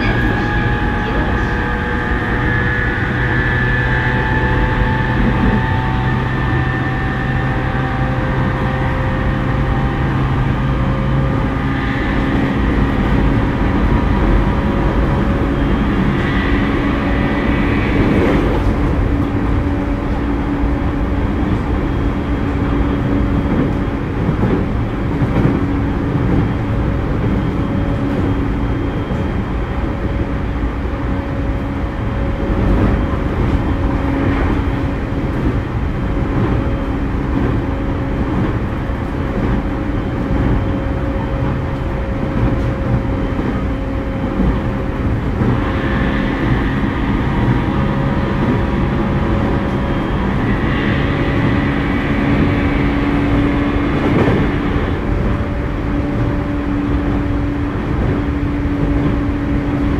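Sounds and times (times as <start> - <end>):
traction motors humming: 0.0 - 59.9
train wheels rumbling on rail: 0.0 - 59.9.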